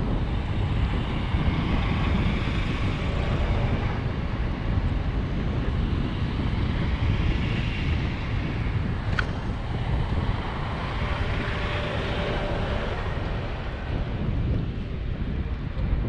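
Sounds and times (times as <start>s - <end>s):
low rumble: 0.0s - 16.0s
wind buffeting microphone: 0.0s - 16.0s.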